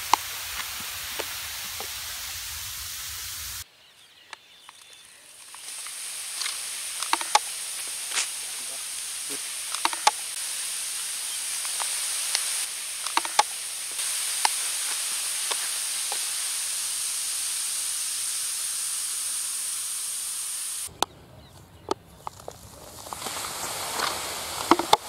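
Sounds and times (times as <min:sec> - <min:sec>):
foam fizzing hiss: 0:00.0 - 0:03.7, 0:04.6 - 0:20.9, 0:22.3 - 0:25.0.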